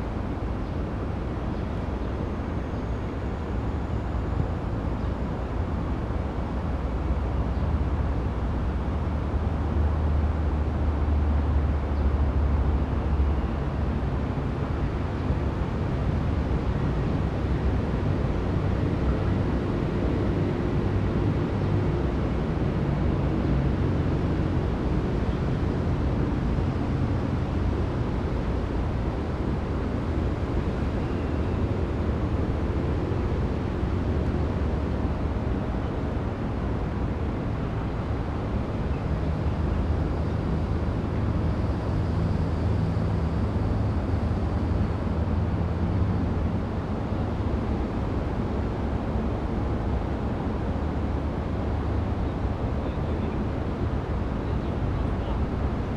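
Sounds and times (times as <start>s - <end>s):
low outdoor rumble: 0.0s - 55.9s.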